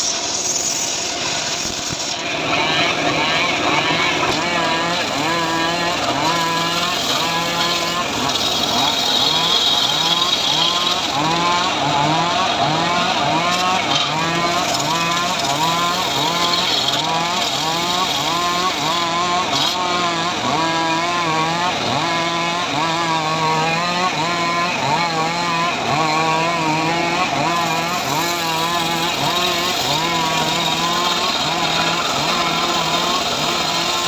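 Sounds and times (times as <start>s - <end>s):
saw engine cutting wood: 0.0s - 34.0s.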